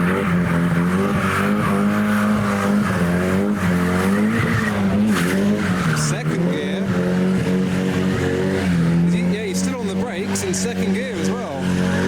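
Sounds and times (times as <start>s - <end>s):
engine at high revs: 0.0s - 12.0s
tyres squealing: 0.0s - 12.0s.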